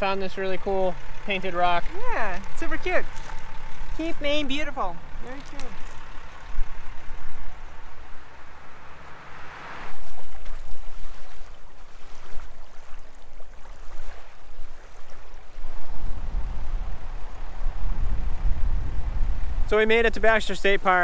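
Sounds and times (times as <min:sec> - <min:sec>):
small waves lapping on shore: 0:00.0 - 0:19.6
wind buffeting microphone: 0:01.9 - 0:12.8, 0:13.5 - 0:21.0.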